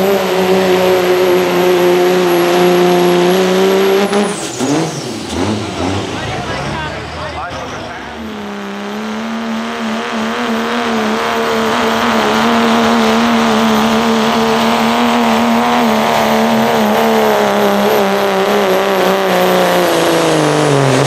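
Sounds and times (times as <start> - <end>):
diesel truck engine under load: 0.0 - 21.0
turbo whine: 0.0 - 21.0.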